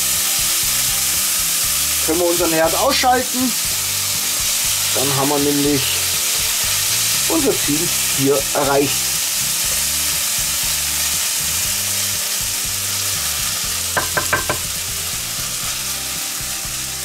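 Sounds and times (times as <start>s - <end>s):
food sizzling in a skillet: 0.0s - 17.0s.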